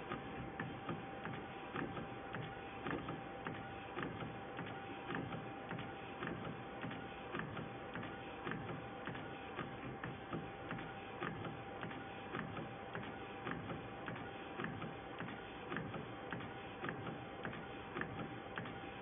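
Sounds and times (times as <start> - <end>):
printer carriage motor whine: 0.0 - 19.0
printer clicking: 0.0 - 19.0.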